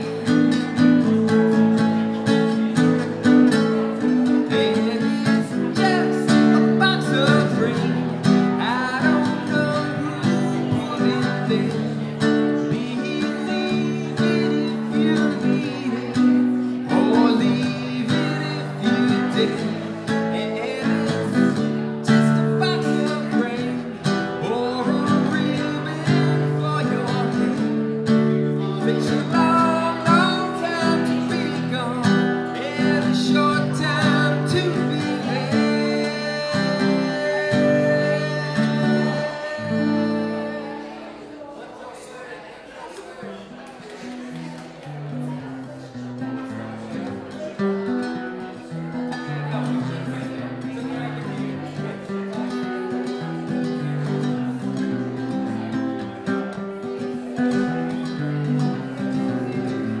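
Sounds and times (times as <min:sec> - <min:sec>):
acoustic guitar strumming: 0:00.0 - 0:41.6, 0:44.0 - 1:00.0.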